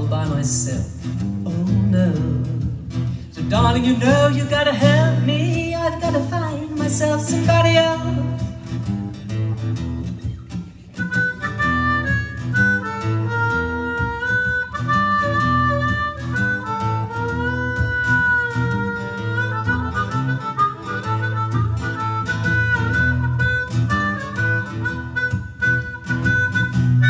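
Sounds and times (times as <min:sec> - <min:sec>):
acoustic guitar accompaniment: 0:00.0 - 0:27.0
blues harmonica solo: 0:04.7 - 0:27.0.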